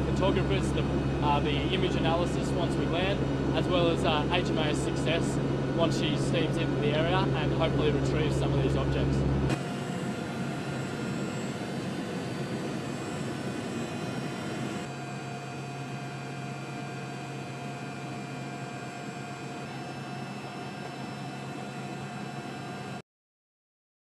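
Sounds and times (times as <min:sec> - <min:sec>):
aircraft engines droning: 0:00.0 - 0:23.0.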